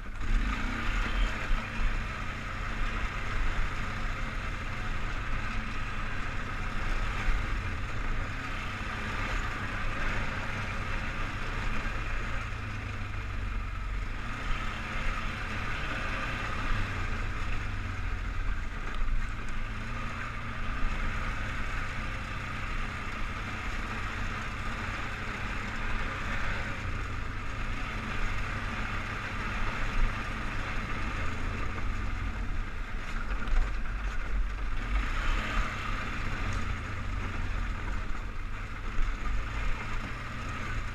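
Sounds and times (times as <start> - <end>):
atv engine rumbling: 0.0 - 40.9.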